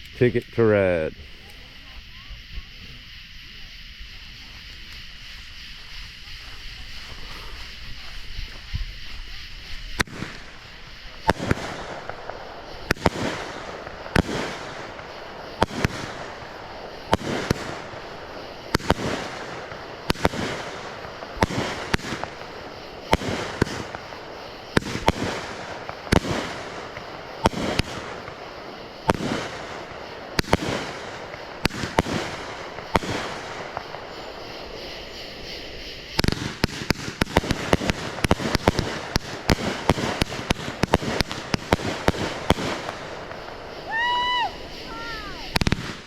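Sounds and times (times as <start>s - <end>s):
fireworks hiss and crackle: 0.0s - 46.0s
fireworks shots: 0.0s - 46.0s.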